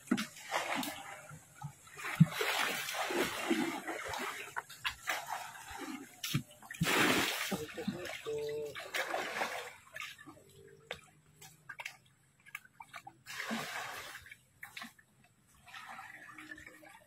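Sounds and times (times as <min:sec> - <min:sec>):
pond water sloshing and splashing: 0:00.0 - 0:17.0.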